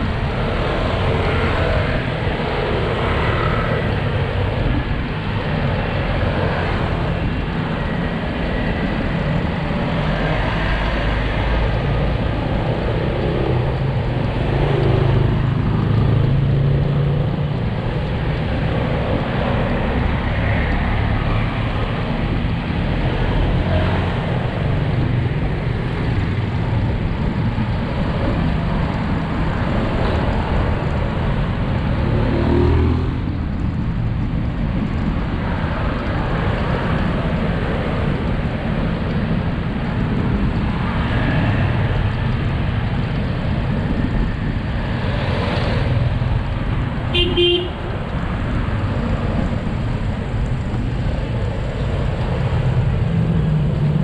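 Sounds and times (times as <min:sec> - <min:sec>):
traffic passing: 0:00.0 - 0:54.0.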